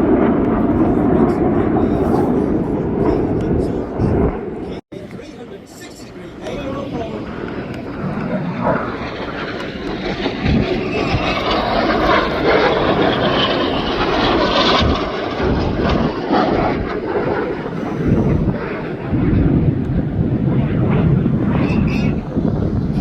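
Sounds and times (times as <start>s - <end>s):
jets flying past: 0.0s - 23.0s.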